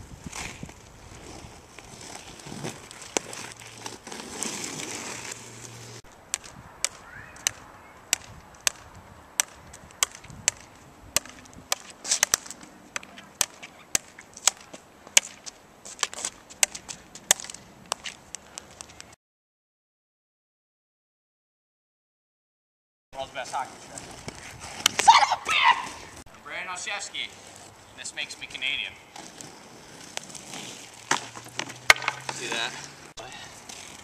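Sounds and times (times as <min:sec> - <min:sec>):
steady outdoor noise: 0:00.0 - 0:19.2, 0:23.2 - 0:34.0.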